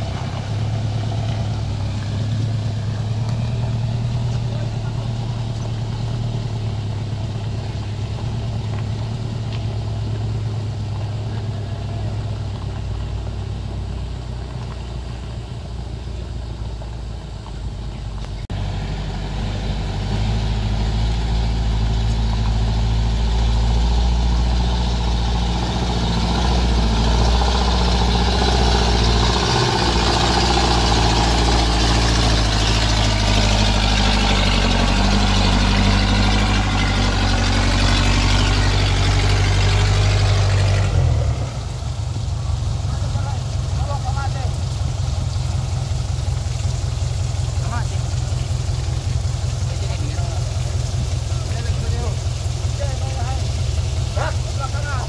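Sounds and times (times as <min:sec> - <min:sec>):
truck engines droning: 0:00.0 - 0:55.0.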